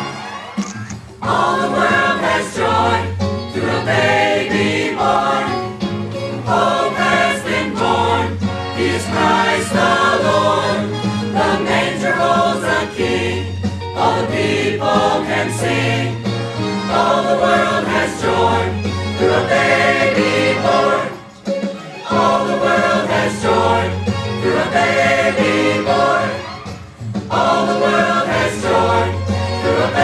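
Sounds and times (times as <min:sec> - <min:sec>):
choir singing carols: 0:01.2 - 0:26.7, 0:27.3 - 0:30.0.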